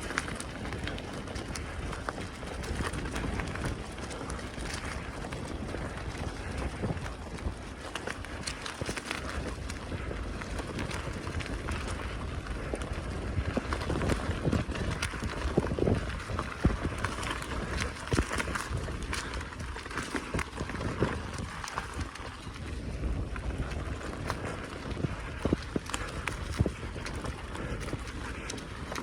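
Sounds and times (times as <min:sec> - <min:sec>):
bicycle tyres rolling: 0:00.0 - 0:29.0
bike rattling: 0:00.0 - 0:29.0
wind on microphone: 0:00.0 - 0:29.0.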